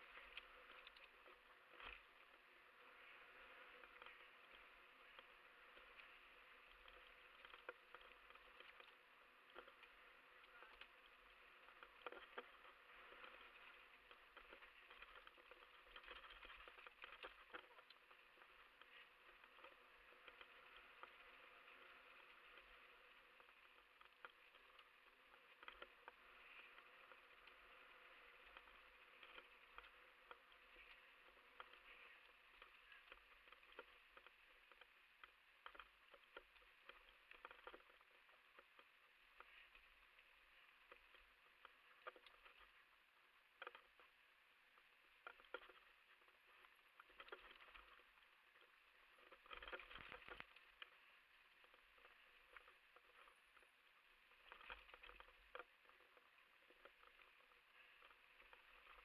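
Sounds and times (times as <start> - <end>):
bike rattling on dirt trail: 0.0 - 59.0.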